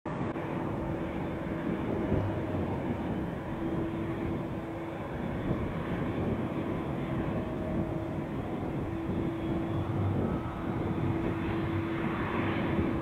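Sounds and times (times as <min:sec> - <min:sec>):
jet engines rumbling: 0:00.1 - 0:13.0.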